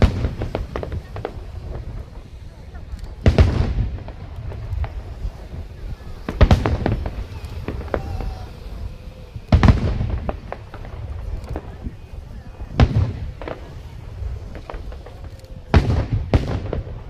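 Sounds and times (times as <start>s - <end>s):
fireworks booming: 0.0s - 17.0s
fireworks pops and crackles: 0.0s - 17.0s.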